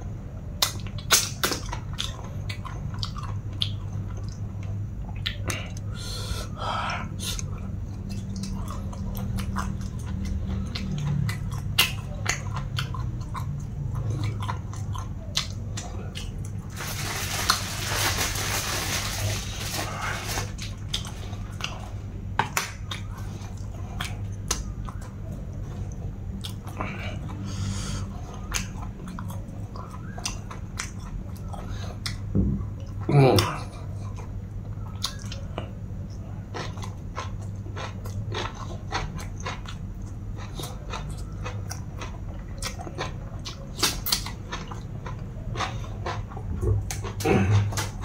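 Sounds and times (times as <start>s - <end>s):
steady low hum: 0.0s - 48.0s
close chewing and biting: 0.5s - 5.9s, 7.1s - 48.0s.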